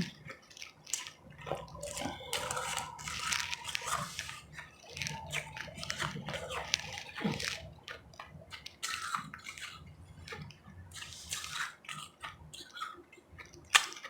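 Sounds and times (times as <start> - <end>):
chewing ice crunches: 0.0 - 14.0
wet squishy chewing: 0.0 - 14.0.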